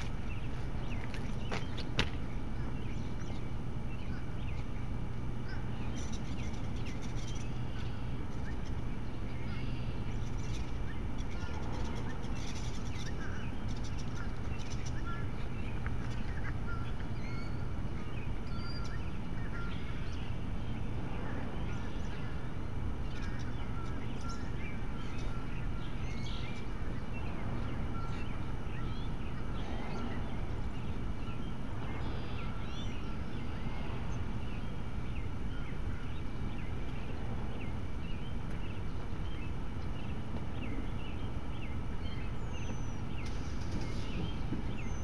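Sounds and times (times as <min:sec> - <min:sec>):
birds chirping: 0:00.0 - 0:45.0
steady low hum: 0:00.0 - 0:45.0.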